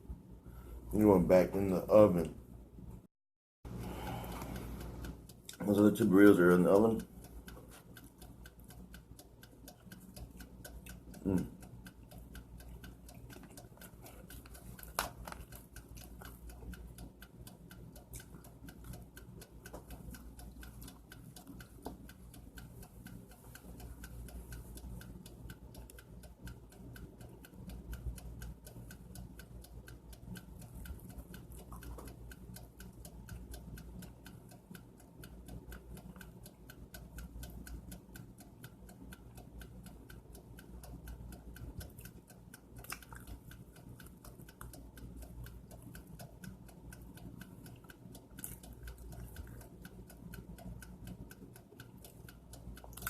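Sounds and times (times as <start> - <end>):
rapid ticking: 3.8 - 53.0.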